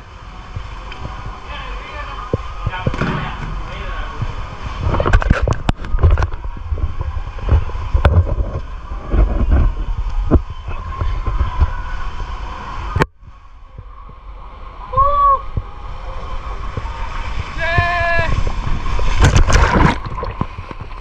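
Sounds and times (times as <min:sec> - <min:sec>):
low rumble: 0:00.0 - 0:21.0
water sloshing and splashing: 0:00.0 - 0:21.0.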